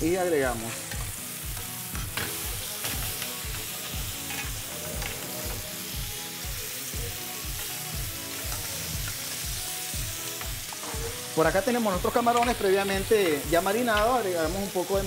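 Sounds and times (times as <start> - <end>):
background music with low beat: 0.0 - 15.0
butter sizzling in a frying pan: 0.0 - 15.0.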